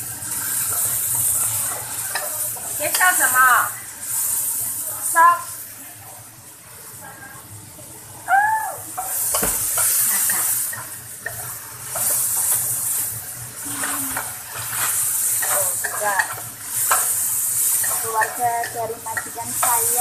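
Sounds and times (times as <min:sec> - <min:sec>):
garlic and mushrooms sizzling: 0:00.0 - 0:20.0.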